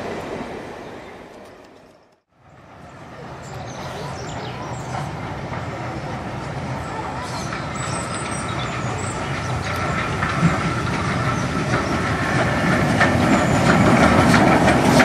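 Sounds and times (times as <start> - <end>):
steam locomotive rumbling: 0.0 - 15.0.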